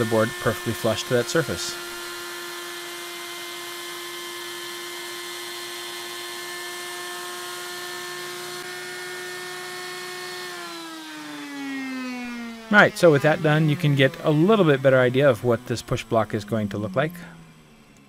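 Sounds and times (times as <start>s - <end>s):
router high whine: 0.0s - 18.0s
router spinning down: 0.0s - 18.0s.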